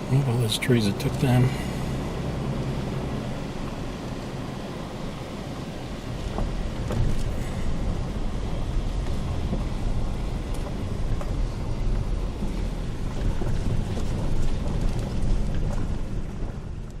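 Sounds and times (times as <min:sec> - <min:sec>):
wind buffeting microphone: 0:01.9 - 0:17.0.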